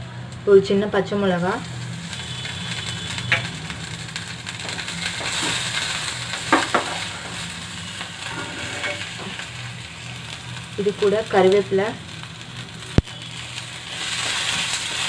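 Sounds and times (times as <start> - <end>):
paste sizzling in hot oil: 1.3 - 15.0.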